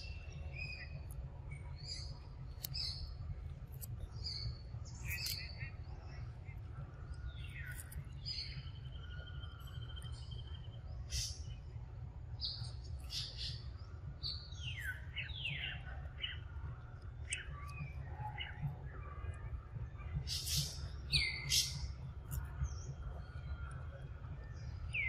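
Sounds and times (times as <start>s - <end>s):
birds chirping and calling: 0.0s - 6.5s, 7.1s - 11.7s, 12.4s - 19.4s, 20.0s - 23.8s
steady low rumble: 0.0s - 25.0s.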